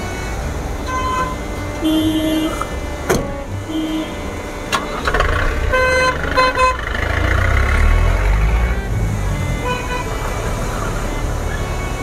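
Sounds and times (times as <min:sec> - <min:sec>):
passing vehicle engine rumble: 0:00.0 - 0:12.0
vehicle horn toots: 0:00.0 - 0:12.0.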